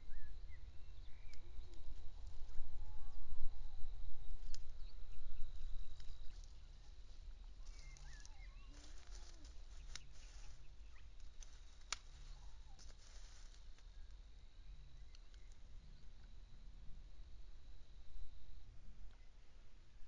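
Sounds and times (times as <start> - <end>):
faint bird calls: 0.0 - 16.4.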